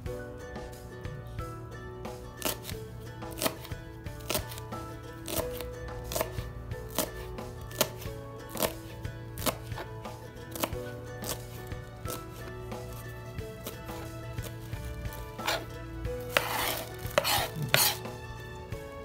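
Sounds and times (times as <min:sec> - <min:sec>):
background music: 0:00.0 - 0:19.0
knife chopping on cutting board: 0:02.3 - 0:02.7, 0:03.3 - 0:18.2.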